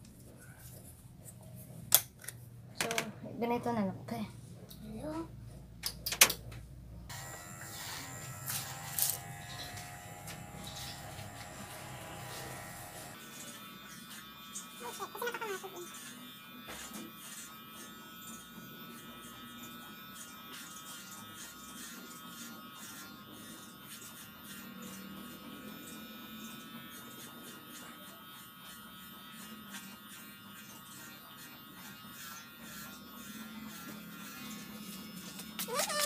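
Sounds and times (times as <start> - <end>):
pet clipper buzzing: 7.1 - 36.0.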